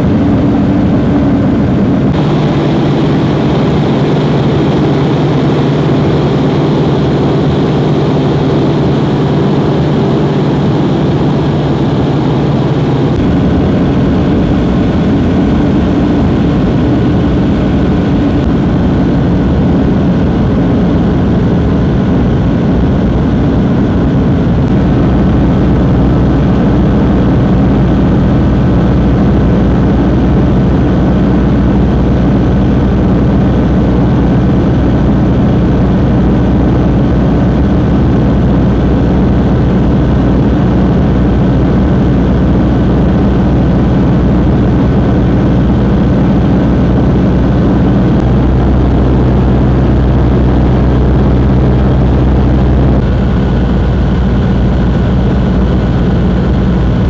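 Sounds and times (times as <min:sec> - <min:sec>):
airflow noise: 0:00.0 - 0:57.0
propeller engine drone: 0:00.0 - 0:57.0.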